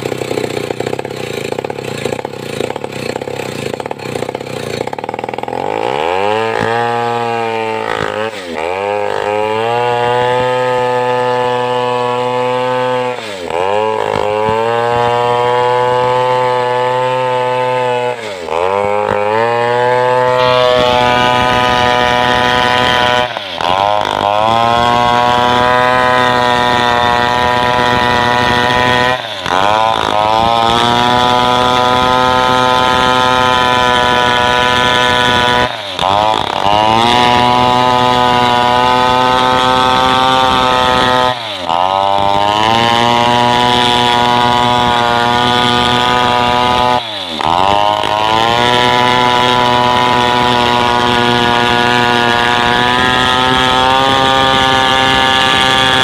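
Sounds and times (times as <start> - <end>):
chainsaw ripping a log: 0.0 - 56.0.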